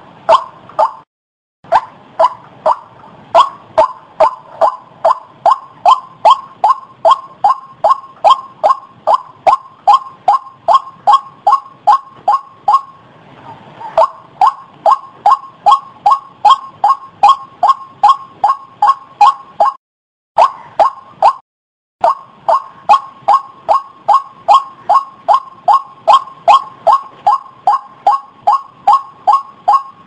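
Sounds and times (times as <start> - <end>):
waterhen calling: 0.0 - 1.0, 1.7 - 19.8, 20.4 - 21.4, 22.0 - 30.0.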